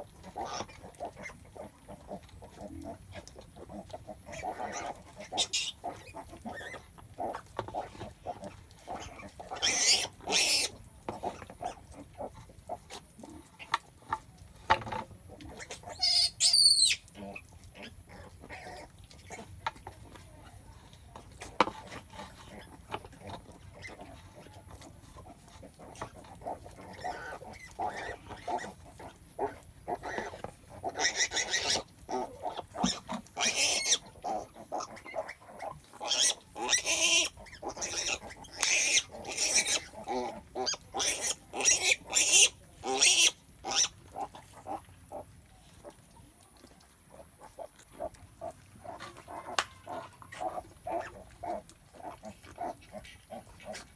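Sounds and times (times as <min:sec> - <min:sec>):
pigs grunting and squealing: 0:00.0 - 0:14.1, 0:15.2 - 0:20.2, 0:21.2 - 0:45.3, 0:47.1 - 0:53.9.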